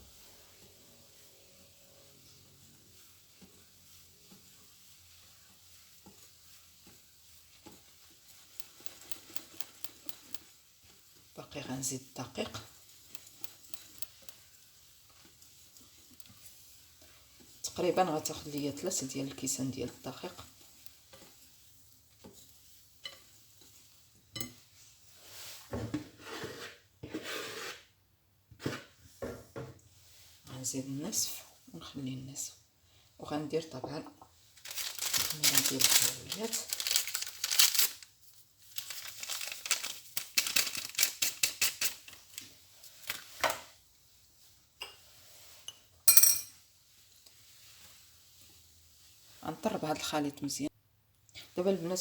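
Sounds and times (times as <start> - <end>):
rustling and scraping: 0.0 - 11.4, 12.4 - 27.9, 33.9 - 50.1
utensil stirring batter in bowl: 0.0 - 28.0, 28.6 - 30.5, 32.6 - 50.6.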